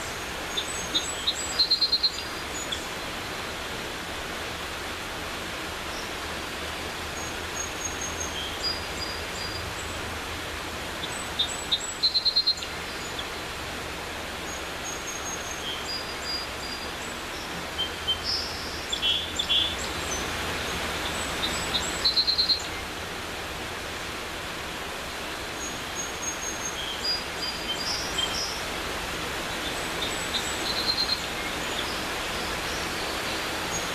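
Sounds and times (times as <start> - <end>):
mountain creek rushing: 0.0 - 33.9
songbirds chirping: 0.0 - 33.9.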